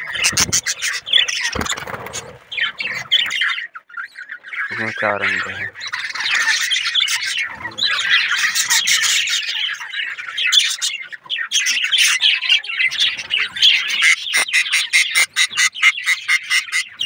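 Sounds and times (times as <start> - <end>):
budgerigars chattering and squawking: 0.0 - 17.0.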